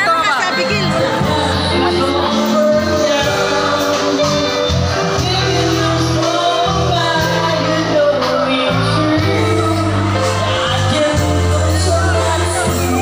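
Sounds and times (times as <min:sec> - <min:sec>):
bass: 0:00.0 - 0:13.0
drums: 0:00.0 - 0:13.0
keyboard: 0:00.0 - 0:13.0
person singing: 0:00.0 - 0:13.0.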